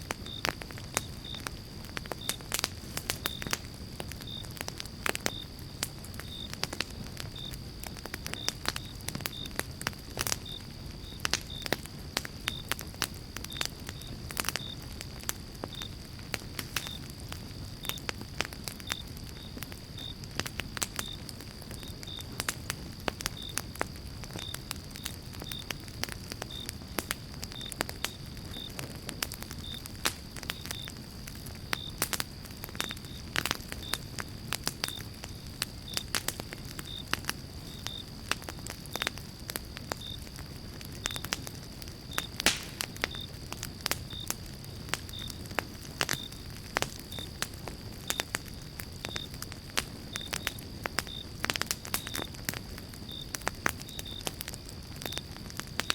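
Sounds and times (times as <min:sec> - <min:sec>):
campfire pops: 0:00.0 - 0:55.9
low rush of flames: 0:00.0 - 0:55.9.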